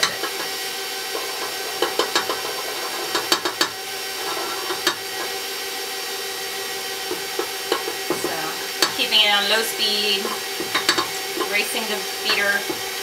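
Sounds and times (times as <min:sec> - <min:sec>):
stand mixer motor hum: 0:00.0 - 0:13.0.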